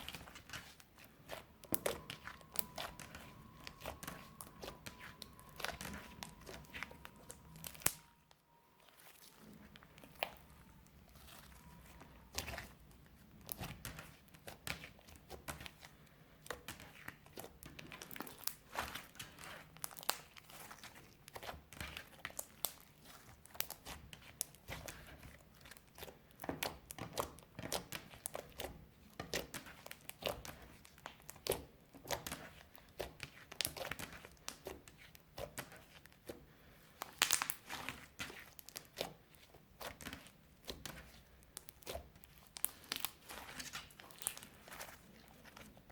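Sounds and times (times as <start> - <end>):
sticky slime crackles and pops: 0.0 - 45.9.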